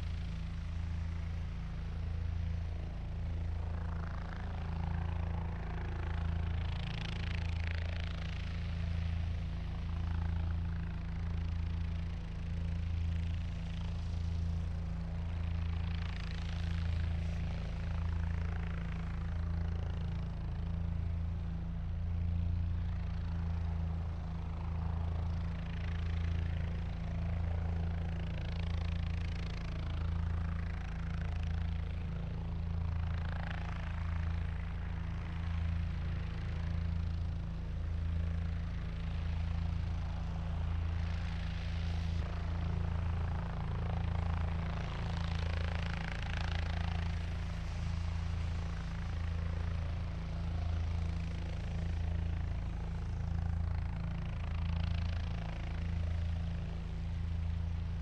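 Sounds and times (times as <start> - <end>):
helicopter rotor hum: 0.0 - 58.0.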